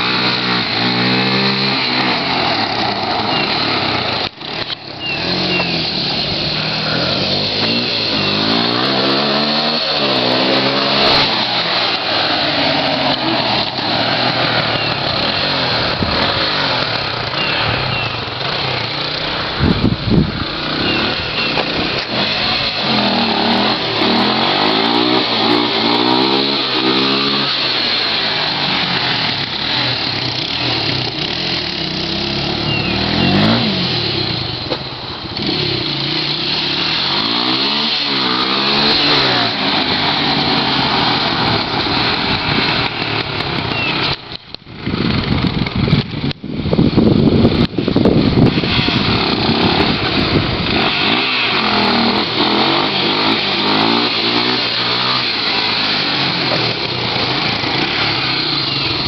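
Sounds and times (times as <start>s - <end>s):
loud rough noise: 0.0s - 59.0s
quad engine revving: 0.0s - 59.0s.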